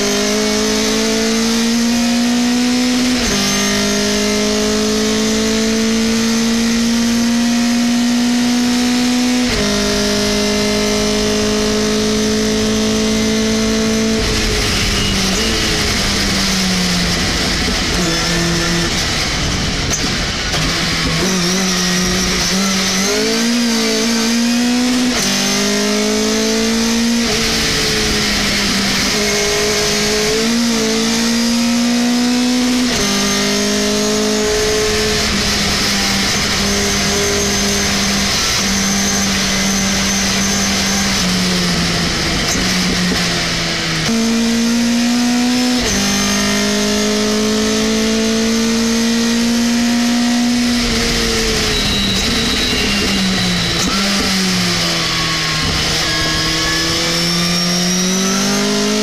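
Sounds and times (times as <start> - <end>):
truck engine revving through gears: 0.0 - 59.0.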